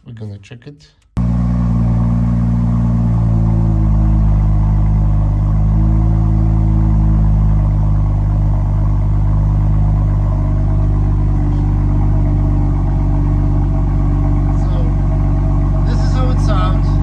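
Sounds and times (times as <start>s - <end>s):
car engine idling: 1.2s - 17.0s.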